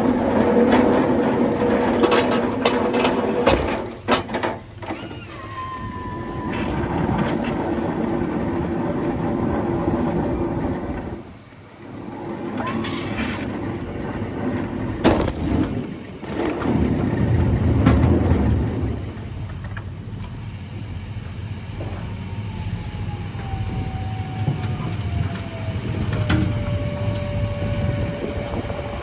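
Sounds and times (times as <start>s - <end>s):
pallets rolling and rattling: 0.0s - 29.0s
heavy rumble: 5.5s - 29.0s.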